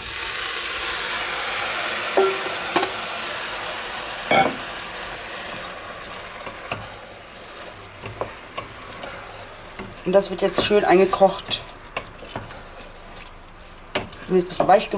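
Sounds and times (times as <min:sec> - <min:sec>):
tomatoes sizzling in hot oil: 0:00.0 - 0:14.9.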